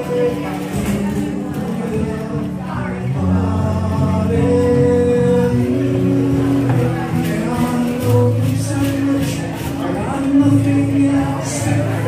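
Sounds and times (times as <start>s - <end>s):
acoustic guitar: 0.0s - 12.0s
person singing at a microphone: 0.0s - 12.0s.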